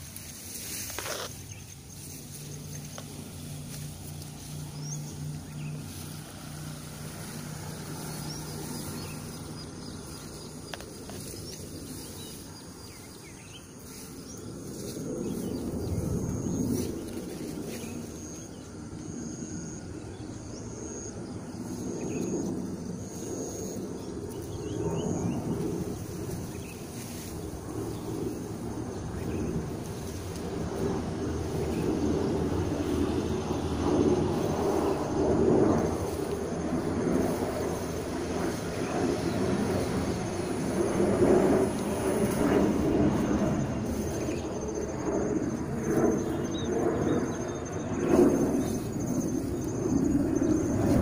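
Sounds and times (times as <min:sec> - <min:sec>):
steady low hum: 0:00.0 - 0:51.0
wind gusting on microphone: 0:00.0 - 0:51.0.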